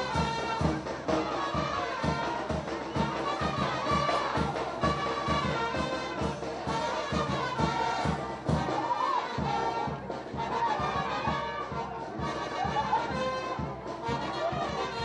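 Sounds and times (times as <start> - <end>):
brass band playing a melody: 0.0 - 15.0
steady drum beat: 0.0 - 15.0.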